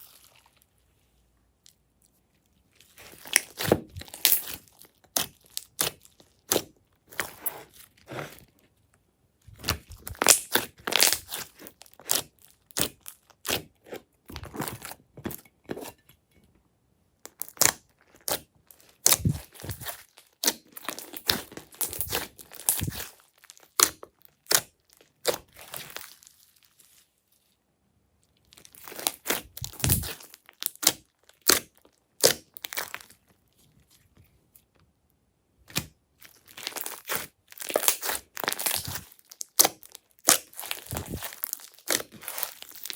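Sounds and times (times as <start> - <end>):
slime squishing and tearing: 2.8 - 8.5, 9.5 - 16.0, 17.3 - 27.1, 28.4 - 33.9, 35.6 - 42.9.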